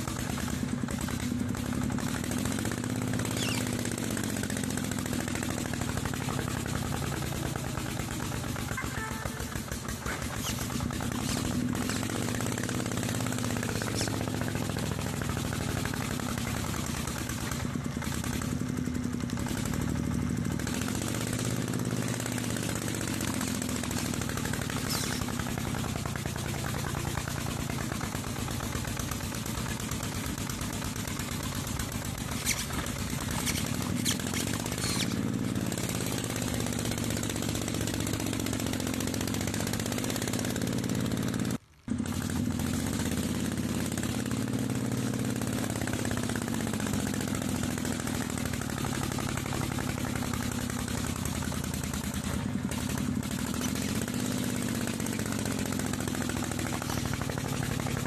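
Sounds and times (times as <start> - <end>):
small tractor engine chugging: 0.0 - 58.0.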